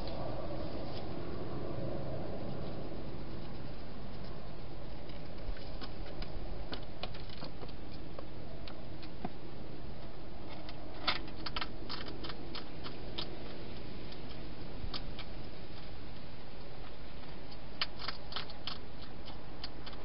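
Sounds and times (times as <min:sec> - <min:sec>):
hedgehog crunching food: 0:02.4 - 0:09.2, 0:10.0 - 0:20.0.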